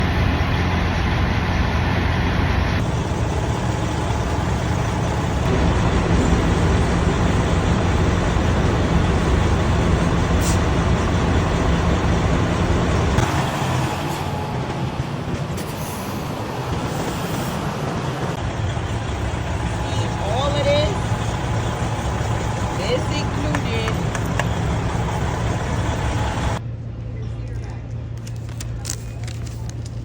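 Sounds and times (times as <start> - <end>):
truck engine idling rumble: 0.0 - 30.0.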